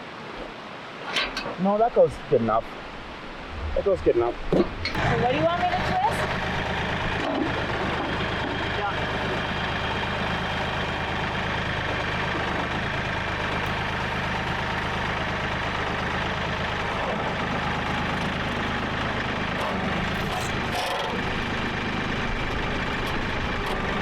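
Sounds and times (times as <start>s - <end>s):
engine idling: 4.6s - 24.0s.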